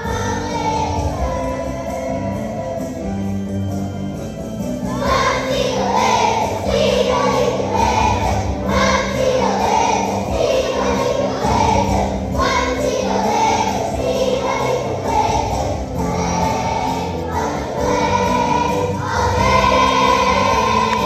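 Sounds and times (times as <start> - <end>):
children's choir singing: 0.0 - 3.5, 4.8 - 21.0
instrumental accompaniment: 0.0 - 21.0.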